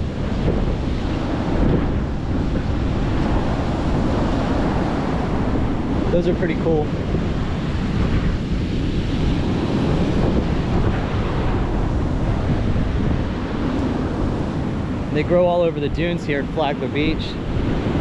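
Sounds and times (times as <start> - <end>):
rough surf: 0.0 - 18.0
wind buffeting microphone: 0.0 - 18.0.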